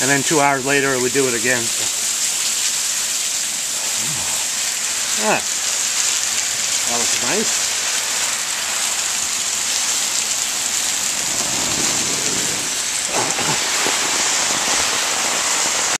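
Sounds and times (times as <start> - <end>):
car tyres swishing on wet road: 0.0 - 16.0
heavy rain pouring: 0.0 - 16.0.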